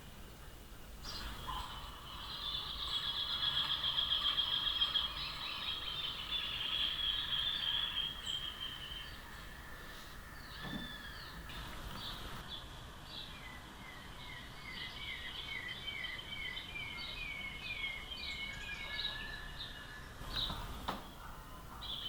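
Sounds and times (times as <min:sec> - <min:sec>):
bird song trill: 0:01.0 - 0:22.0.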